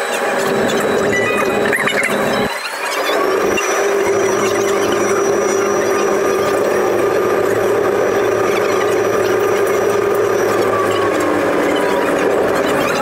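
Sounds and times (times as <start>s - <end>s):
electric motor hum and whine: 0.0s - 13.0s
wheels rolling on rails: 0.0s - 13.0s.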